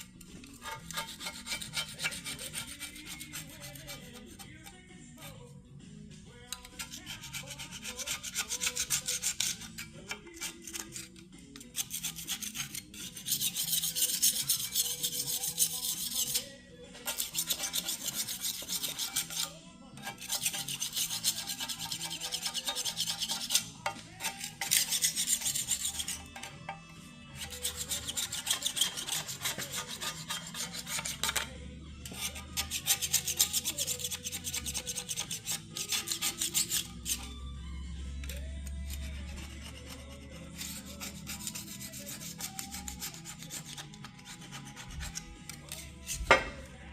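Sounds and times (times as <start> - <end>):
hand tool scrubbing metal: 0.5 - 4.5, 6.5 - 26.8, 27.4 - 31.5, 32.1 - 37.3, 38.8 - 46.6.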